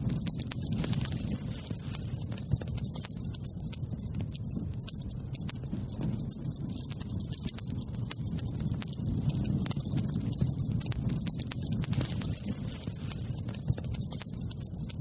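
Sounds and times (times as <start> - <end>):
campfire crackles and pops: 0.0 - 15.0
low rumble of flames: 0.0 - 15.0.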